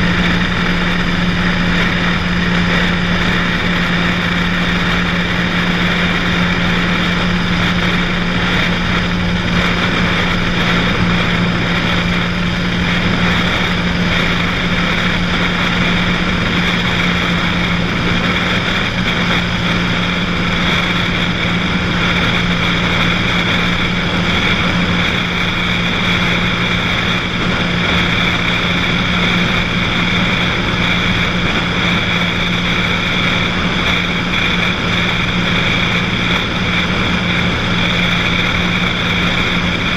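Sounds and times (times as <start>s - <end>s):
propeller plane engine humming: 0.0s - 39.9s.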